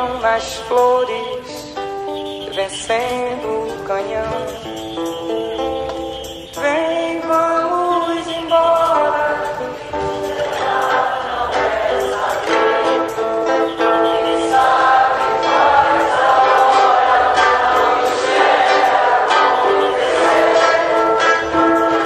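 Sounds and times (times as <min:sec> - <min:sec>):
plucked strings: 0:00.0 - 0:22.0
song with choir-like voices: 0:02.4 - 0:22.0.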